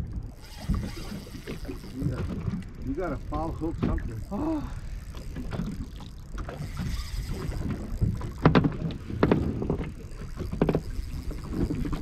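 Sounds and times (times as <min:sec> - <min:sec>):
boat and water noise: 0:00.0 - 0:12.0
wind rumbling on microphone: 0:00.0 - 0:12.0.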